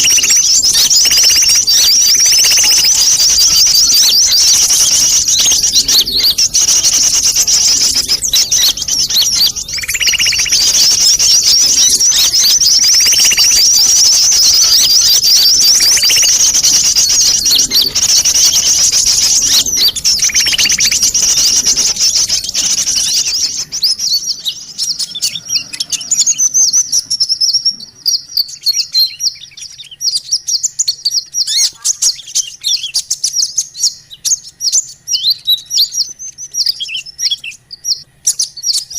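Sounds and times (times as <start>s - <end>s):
high-pitched bird chirps: 0.0s - 38.9s
lower buzzy bird call: 0.0s - 38.9s.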